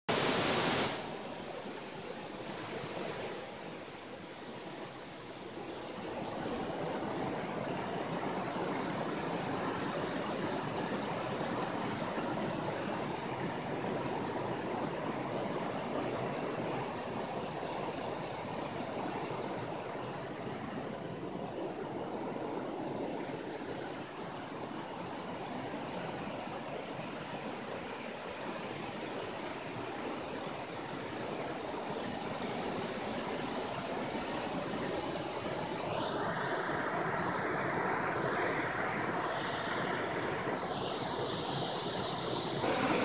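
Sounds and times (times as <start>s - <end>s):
river rushing over rocks: 0.1s - 43.0s.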